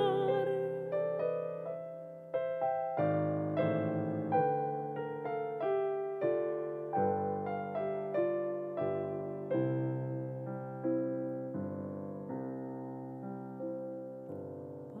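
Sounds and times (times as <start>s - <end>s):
piano chords and notes: 0.0s - 15.0s.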